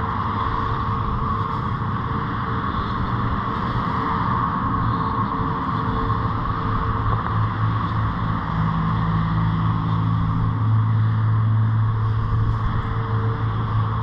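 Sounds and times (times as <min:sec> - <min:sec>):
engine-like drone: 0:00.0 - 0:14.0.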